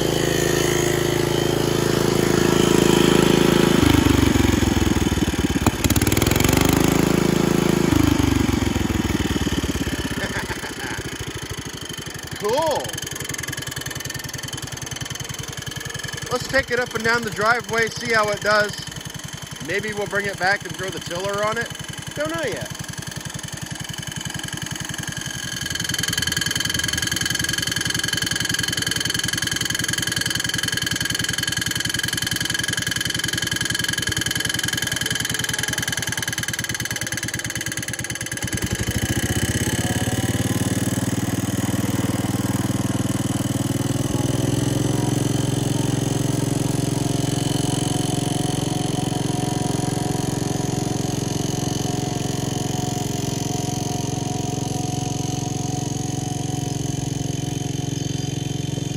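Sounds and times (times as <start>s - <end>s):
garden tractor engine: 0.0s - 58.9s.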